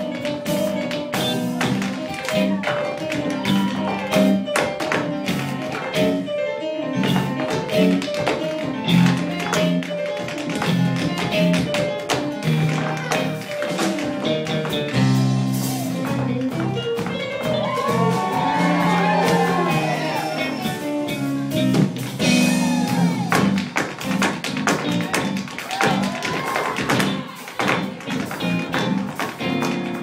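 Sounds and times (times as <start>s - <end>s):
tap shoes striking a stage floor: 0.0s - 6.2s, 7.0s - 15.3s, 16.0s - 19.6s, 21.7s - 30.0s
latin-style music with bass: 0.0s - 30.0s.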